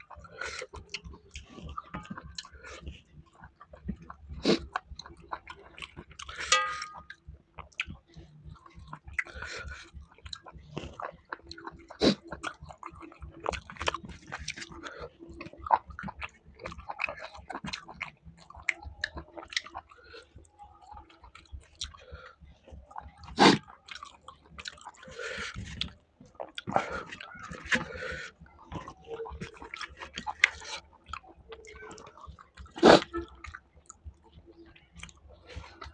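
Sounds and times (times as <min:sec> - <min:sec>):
person chewing food: 0:00.0 - 0:35.9.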